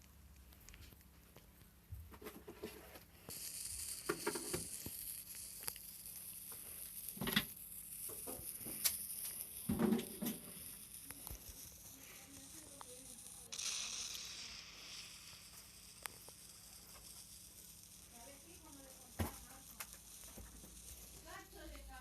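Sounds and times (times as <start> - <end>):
steady high hiss: 3.2 - 22.0.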